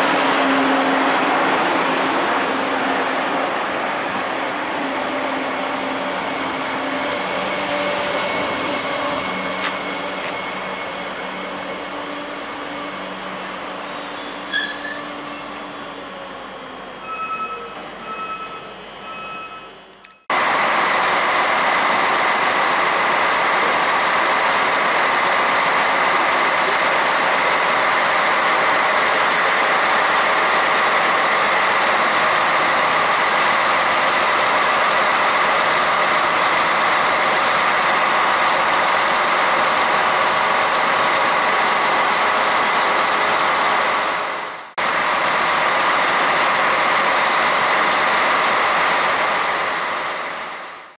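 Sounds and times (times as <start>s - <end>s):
tram rolling noise: 0.0s - 50.9s.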